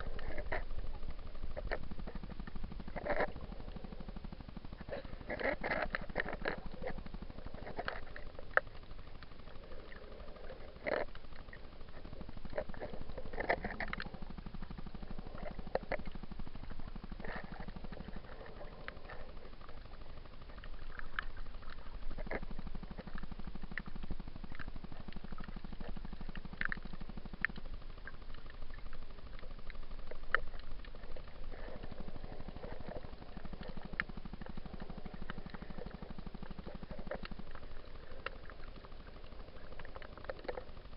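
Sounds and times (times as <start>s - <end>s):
underwater water rumble: 0.0s - 40.9s
water gurgles: 0.0s - 40.9s.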